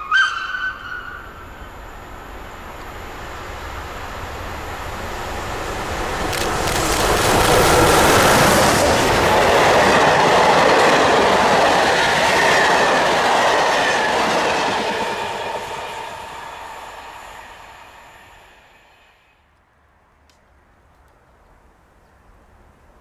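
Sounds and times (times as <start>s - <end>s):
train wheels on rails: 0.0s - 19.6s.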